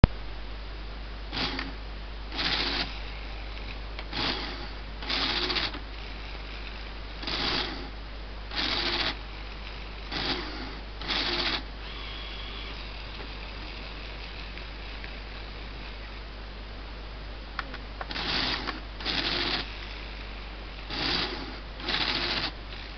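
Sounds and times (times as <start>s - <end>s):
small electric motors whirring: 1.3s - 1.7s, 2.3s - 16.2s, 18.1s - 22.9s.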